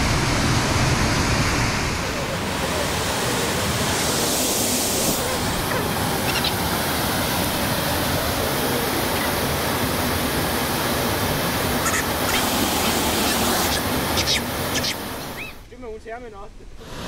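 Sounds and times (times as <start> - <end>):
waterfall roaring: 0.0 - 15.7.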